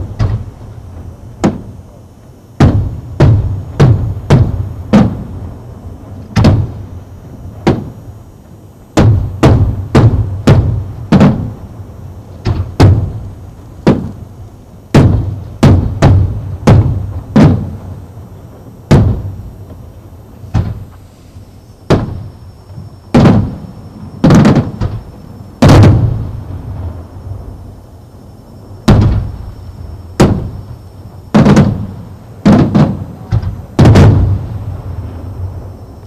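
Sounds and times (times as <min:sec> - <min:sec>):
firework bangs with echo: 0:00.0 - 0:21.1, 0:21.8 - 0:27.8, 0:28.6 - 0:36.0.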